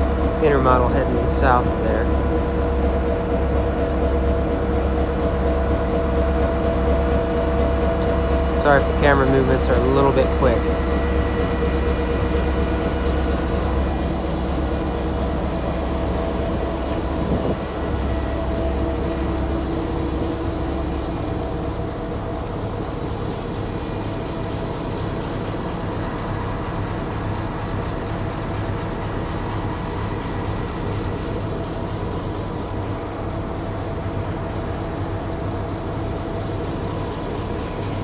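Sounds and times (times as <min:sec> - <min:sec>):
diesel locomotive engine idling: 0:00.0 - 0:38.0.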